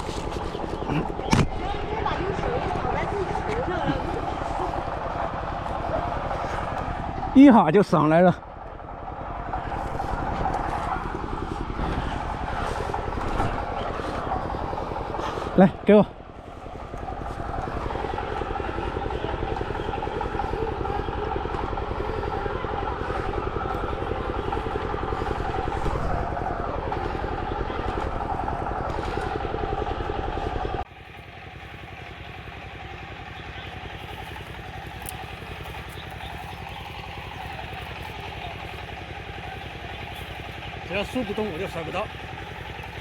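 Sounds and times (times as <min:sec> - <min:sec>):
mechanical motor hum: 0:00.0 - 0:43.0.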